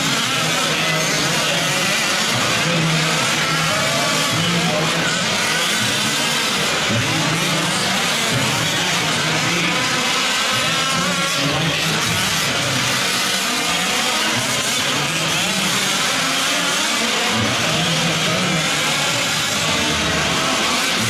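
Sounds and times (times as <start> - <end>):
rc truck engines revving: 0.0 - 21.0.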